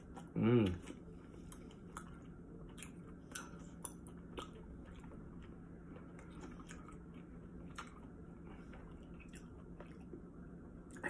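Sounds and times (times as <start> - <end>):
person chewing: 0.0 - 10.3
low steady hum: 0.0 - 11.0.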